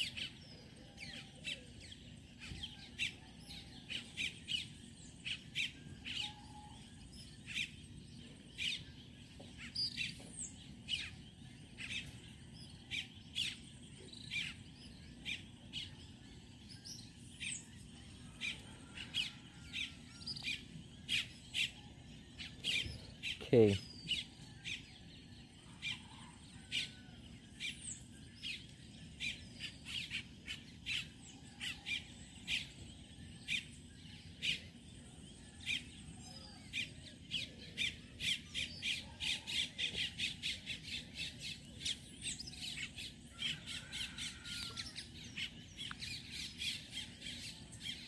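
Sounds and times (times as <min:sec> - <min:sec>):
birds chirping: 0:00.0 - 0:48.0
faint steady background noise: 0:00.0 - 0:48.0.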